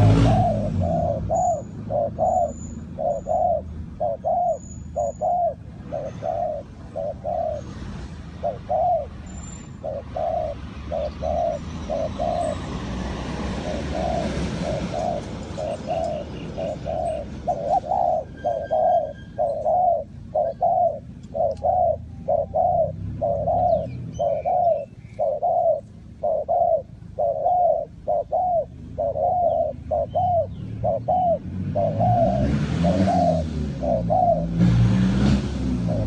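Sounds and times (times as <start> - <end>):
dove cooing: 0.0 - 34.7, 35.6 - 36.0.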